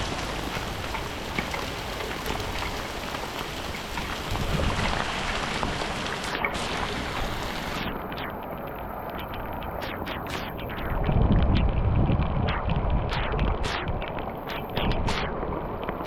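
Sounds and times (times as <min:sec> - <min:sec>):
rain falling on water: 0:00.0 - 0:16.0.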